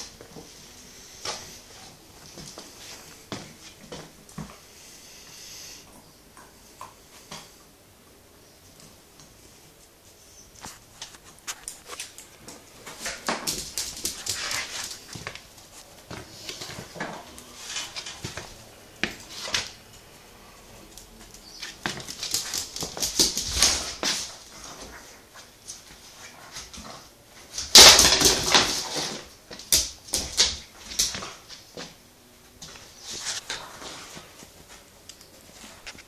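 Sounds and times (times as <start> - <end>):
dogs playing and scuffling: 0.0 - 7.8, 8.6 - 36.0.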